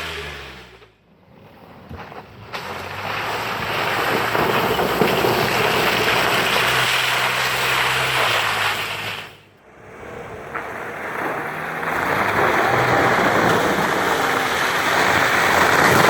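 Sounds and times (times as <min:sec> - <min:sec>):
vehicle engine pulling under load: 0:00.0 - 0:16.0
mud and water splashing: 0:02.1 - 0:09.4, 0:10.0 - 0:16.0.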